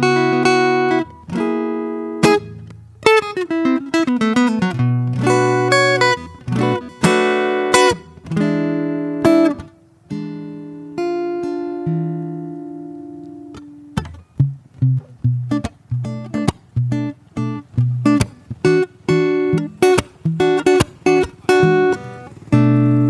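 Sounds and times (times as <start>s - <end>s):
solo acoustic guitar: 0.0s - 23.0s.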